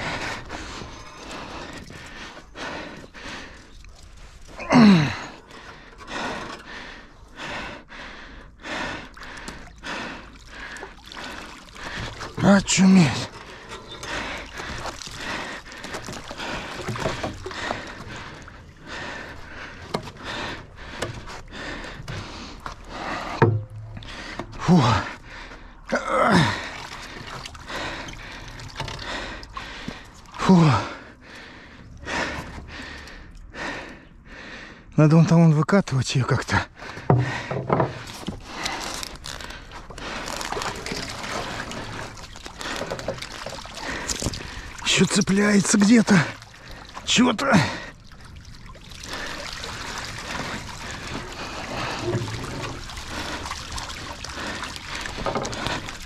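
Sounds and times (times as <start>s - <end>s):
water splashing and streaming: 0.0s - 34.0s, 36.1s - 56.0s.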